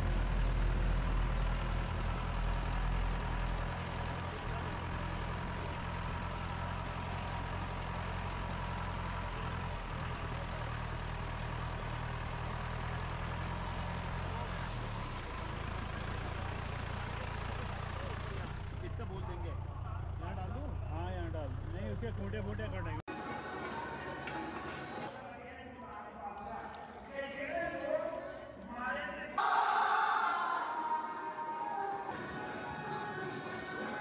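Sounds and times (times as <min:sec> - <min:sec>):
vehicle engine humming: 0:00.0 - 0:25.1, 0:29.8 - 0:34.0.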